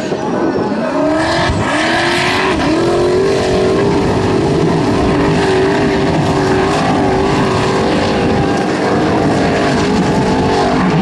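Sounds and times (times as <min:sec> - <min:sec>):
buggy engine revving high: 0:00.6 - 0:11.0.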